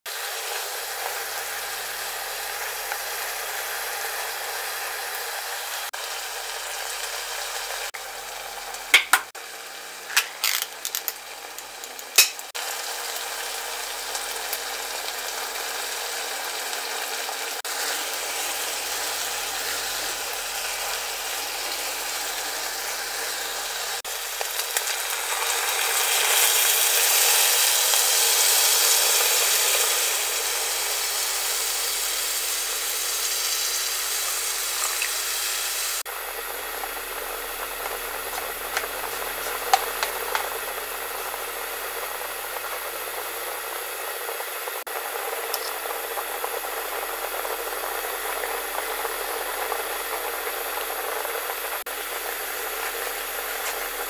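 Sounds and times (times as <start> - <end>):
food sizzling in hot oil: 0.1 - 54.0.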